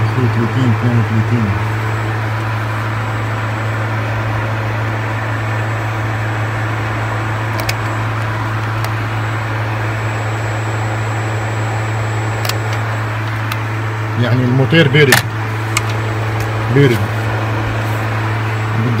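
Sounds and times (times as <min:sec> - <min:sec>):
radiator cooling fan droning: 0:00.0 - 0:19.0.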